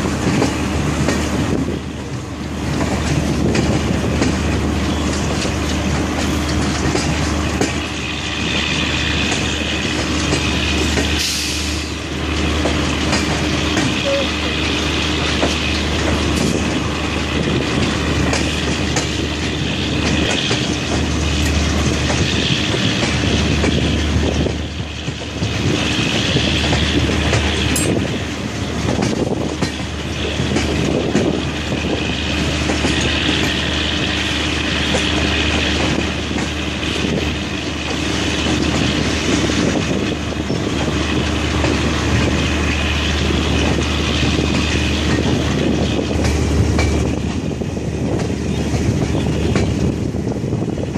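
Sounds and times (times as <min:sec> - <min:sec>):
train rumble and hum: 0:00.0 - 0:50.9.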